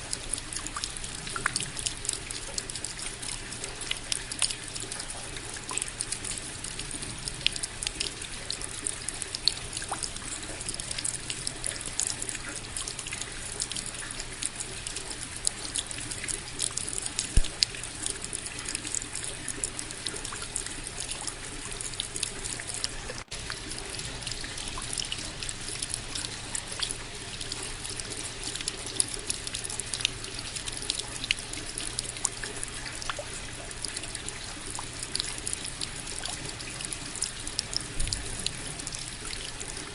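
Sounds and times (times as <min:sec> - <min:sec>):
close drop impacts and drips: 0:00.0 - 0:39.9
steady rain: 0:00.0 - 0:39.9.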